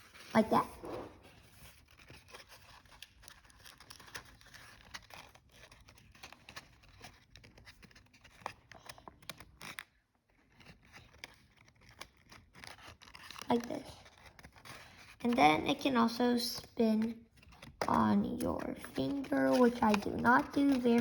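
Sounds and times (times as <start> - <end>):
paper toy rustling and clicking: 0.0 - 21.0.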